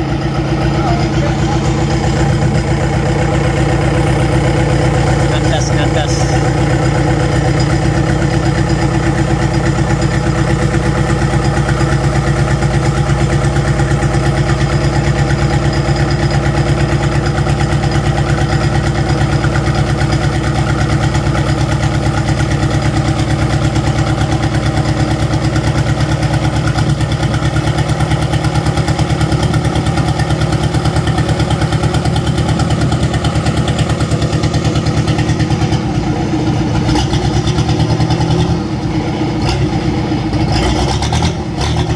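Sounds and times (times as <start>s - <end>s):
boat diesel engine running: 0.0s - 41.9s.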